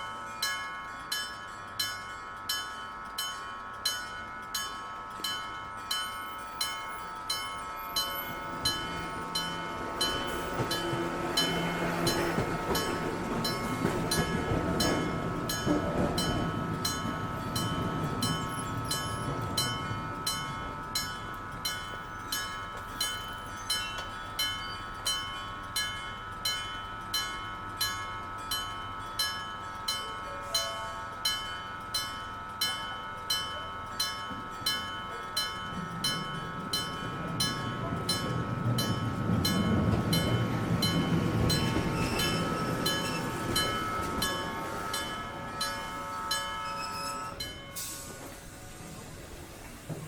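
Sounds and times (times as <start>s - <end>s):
level crossing gong bell striking: 0.0s - 48.2s
train passing rumble: 0.0s - 50.0s.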